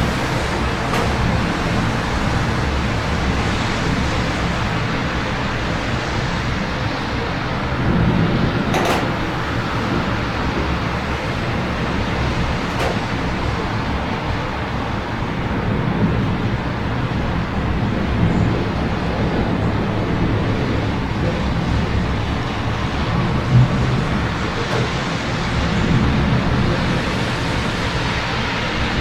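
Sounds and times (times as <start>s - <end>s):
road traffic hum: 0.0s - 29.0s.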